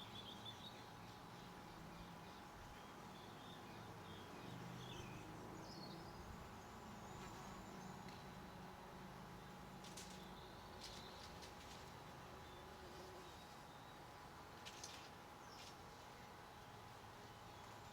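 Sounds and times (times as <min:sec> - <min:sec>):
low intermittent hum: 0:00.0 - 0:17.9.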